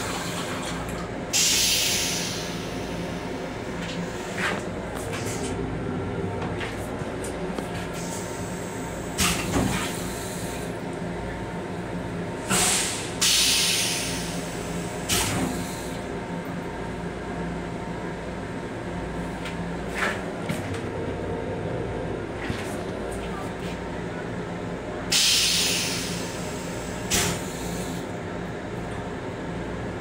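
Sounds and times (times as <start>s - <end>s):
electric railcar rumble: 0.0s - 30.0s.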